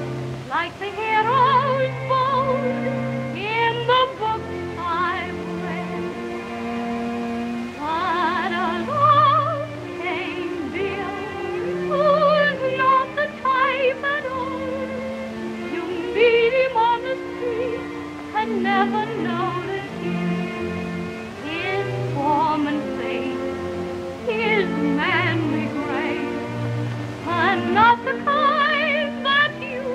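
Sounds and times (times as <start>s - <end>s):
instrumental accompaniment: 0.0s - 29.9s
woman singing a torch song: 0.5s - 6.3s, 7.8s - 20.6s, 21.4s - 26.6s, 27.2s - 29.9s.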